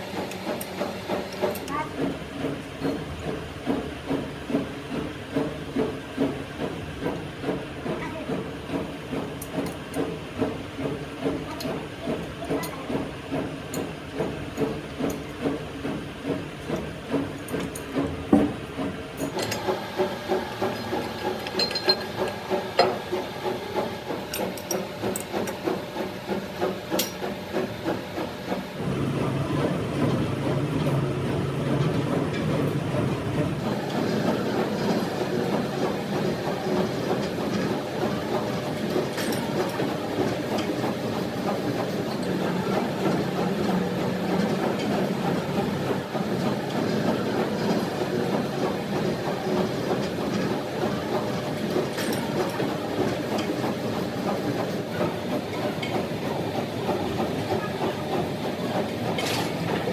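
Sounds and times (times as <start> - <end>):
rhythmic metalworking strokes: 0.0 - 29.0, 29.6 - 59.9.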